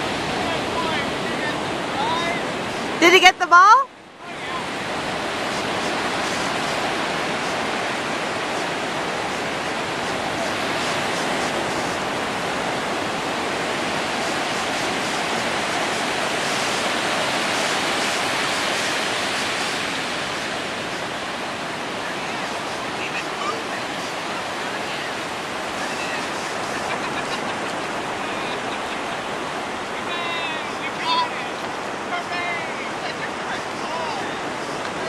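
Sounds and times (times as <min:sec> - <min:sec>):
surf washing on sandy beach: 0:00.0 - 0:35.0.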